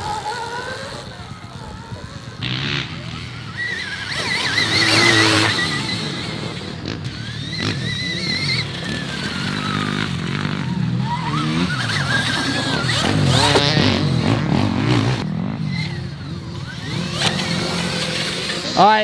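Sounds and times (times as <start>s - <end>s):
electric motorbike motor whining: 0.0s - 19.0s.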